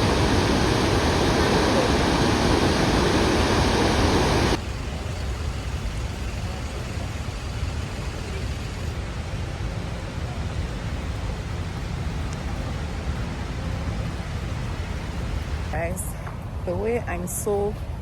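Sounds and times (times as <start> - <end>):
waterfall roaring: 0.0 - 16.1.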